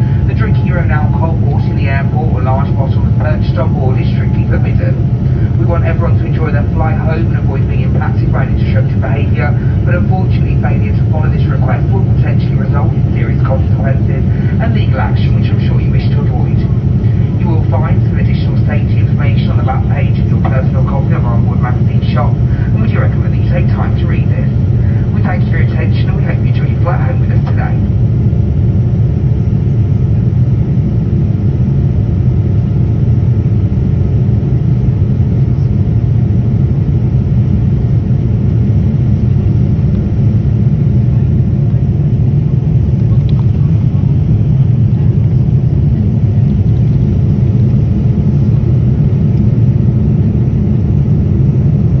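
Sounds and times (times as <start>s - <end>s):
airliner cabin engine rumble: 0.0s - 52.0s.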